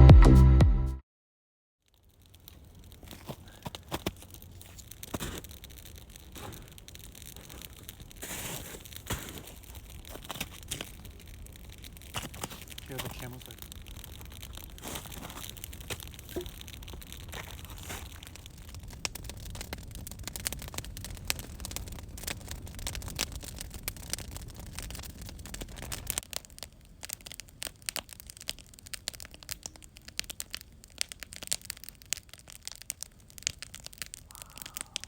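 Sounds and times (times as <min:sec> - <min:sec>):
wood fire crackling: 0:01.9 - 0:35.0.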